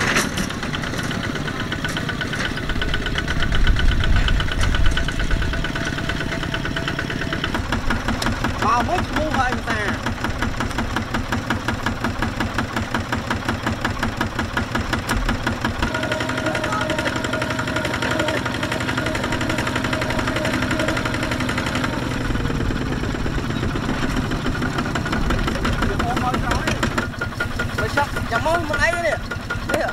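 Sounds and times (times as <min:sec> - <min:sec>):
diesel tractor engine chugging: 0:00.0 - 0:29.9.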